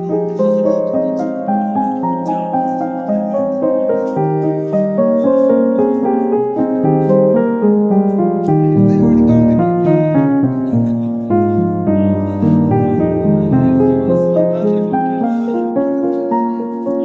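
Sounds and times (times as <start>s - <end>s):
keyboard melody over bass line: 0.0s - 17.0s.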